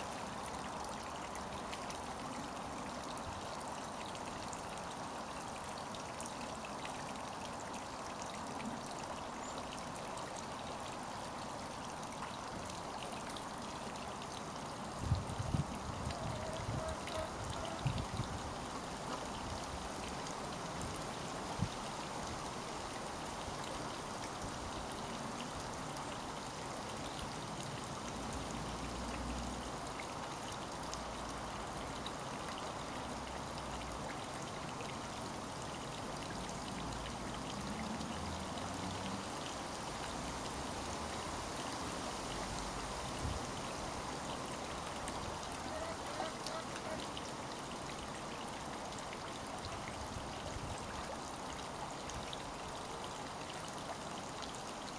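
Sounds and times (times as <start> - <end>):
water trickling into pond: 0.0 - 54.9.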